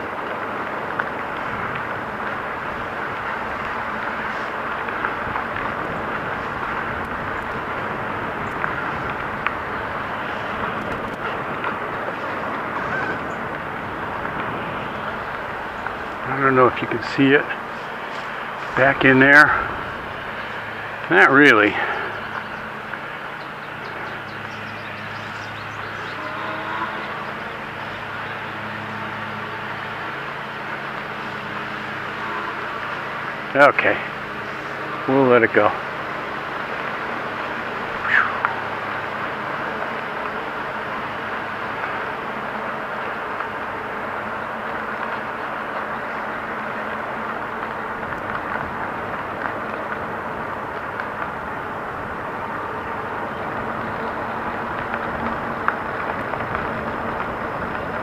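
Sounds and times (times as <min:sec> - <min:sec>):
bicycle tyre and wind noise: 0:00.0 - 0:58.0.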